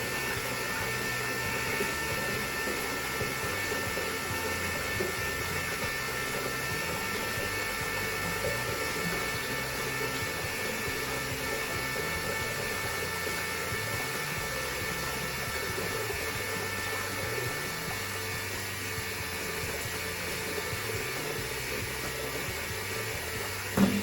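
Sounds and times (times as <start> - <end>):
small electric pump whining: 0.0 - 24.0.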